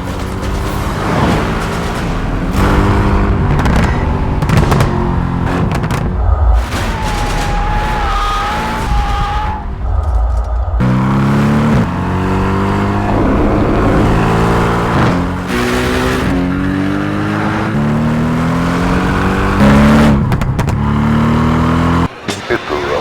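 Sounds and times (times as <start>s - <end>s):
car engine accelerating hard: 0.0s - 10.2s, 10.8s - 22.1s.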